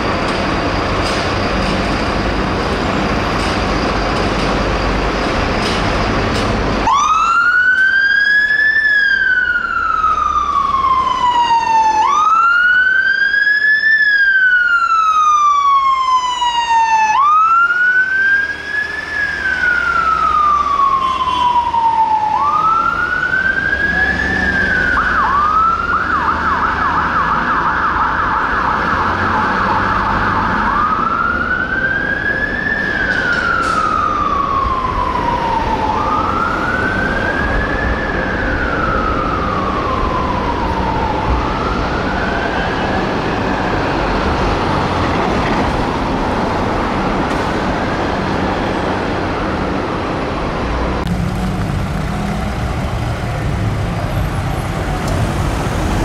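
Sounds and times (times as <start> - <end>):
truck engine rumbling: 0.0 - 16.0, 17.2 - 56.0
fire engine siren: 6.8 - 56.0.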